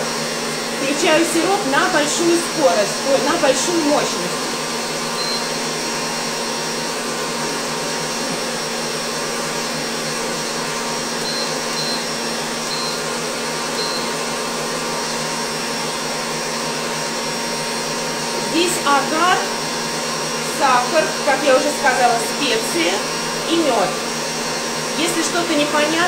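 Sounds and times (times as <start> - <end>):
stand mixer whirring: 0.0 - 26.0.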